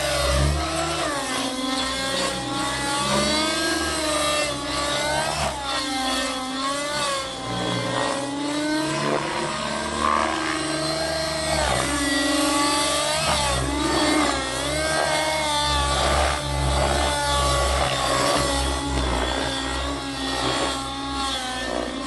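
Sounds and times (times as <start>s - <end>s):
helicopter main rotor: 0.0s - 22.0s
model helicopter engine high revs: 0.0s - 22.0s.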